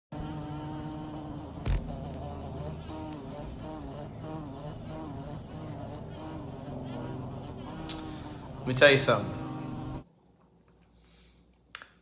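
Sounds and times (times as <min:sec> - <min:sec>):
bee buzzing: 0:00.1 - 0:10.1.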